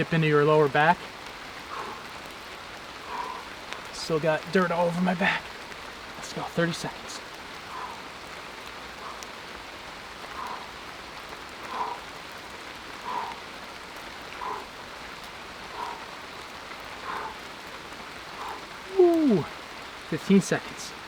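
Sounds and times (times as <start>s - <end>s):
rain falling through forest: 0.0s - 21.0s.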